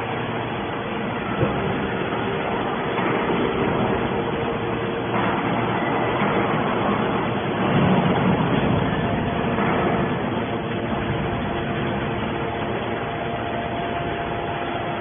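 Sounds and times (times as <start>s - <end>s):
scrap metal baler humming: 0.0s - 15.0s.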